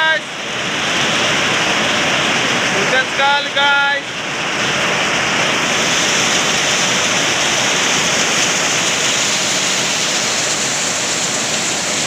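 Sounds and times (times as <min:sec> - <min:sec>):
heavy rain in strong wind: 0:00.0 - 0:12.0.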